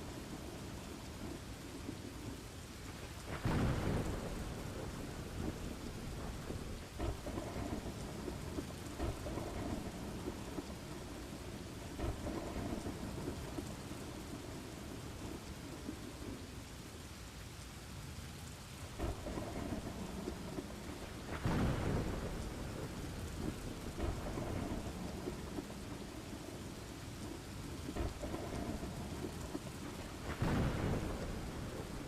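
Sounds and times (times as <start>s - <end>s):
rolling thunder: 0.0s - 16.4s, 18.9s - 32.0s
steady rain falling: 0.0s - 32.0s.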